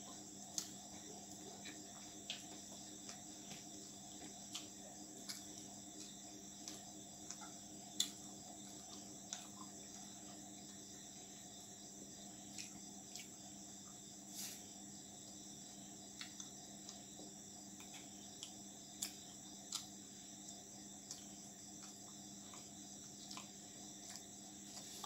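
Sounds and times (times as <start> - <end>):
insects chirring: 0.0 - 25.0
steady low hum: 0.0 - 25.0
food crunching while chewed: 0.1 - 10.9, 12.4 - 13.5, 16.0 - 25.0.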